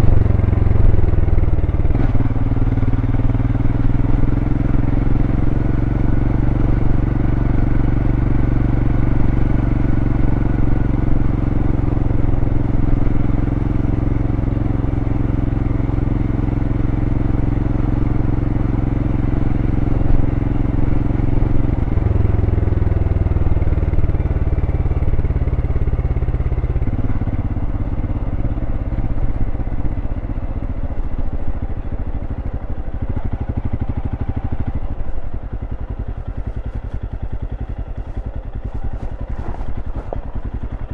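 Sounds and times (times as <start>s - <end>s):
single-cylinder motorcycle engine: 0.0s - 40.9s.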